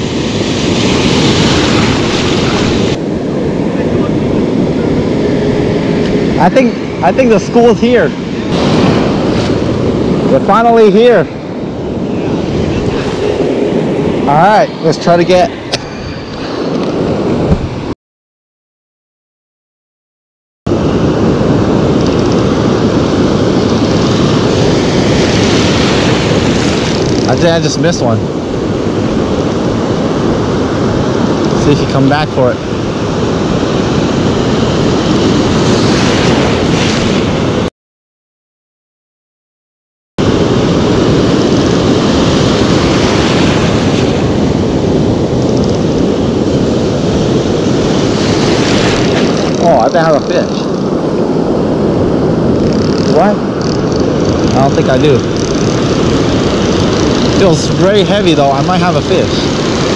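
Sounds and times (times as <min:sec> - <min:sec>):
ocean surf roaring: 0:00.0 - 0:17.9, 0:20.7 - 0:37.7, 0:40.2 - 0:59.9
wind rumbling on microphone: 0:00.0 - 0:17.9, 0:20.7 - 0:37.7, 0:40.2 - 0:59.9.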